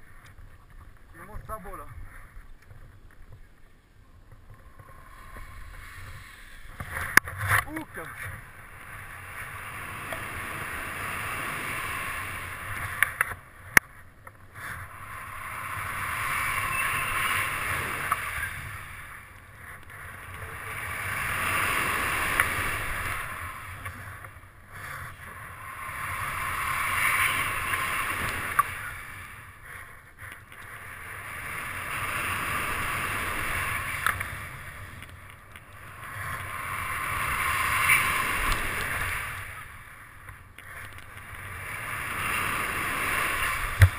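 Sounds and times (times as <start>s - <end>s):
wind rushing over microphone: 4.4s - 13.8s, 14.5s - 29.8s, 30.8s - 39.9s, 41.0s - 43.9s.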